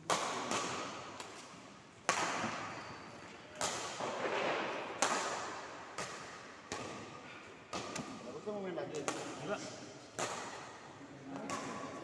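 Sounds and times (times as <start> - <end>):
rackets hitting shuttlecock: 0.0 - 12.0.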